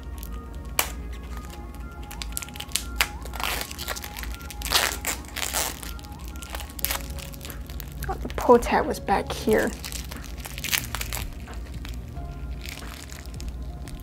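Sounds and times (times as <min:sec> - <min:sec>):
cellophane crinkling and tearing: 0:00.0 - 0:14.0
soft background music: 0:00.0 - 0:14.0.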